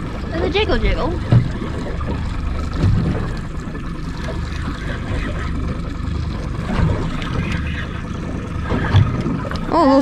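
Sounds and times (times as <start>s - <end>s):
outboard motor running: 0.0s - 10.0s
water noise: 0.0s - 10.0s
wind: 0.0s - 10.0s.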